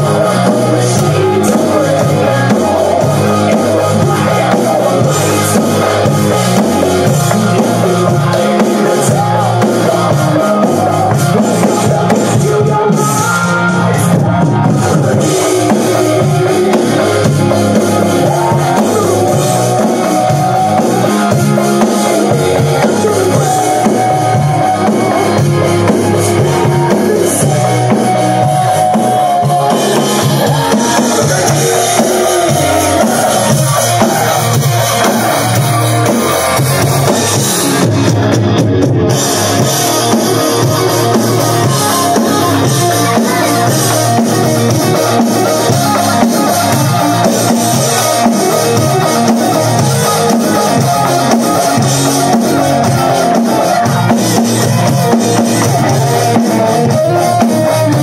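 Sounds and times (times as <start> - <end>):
electronic drum kit playing: 0.0 - 58.0
hard rock song playing: 0.0 - 58.0.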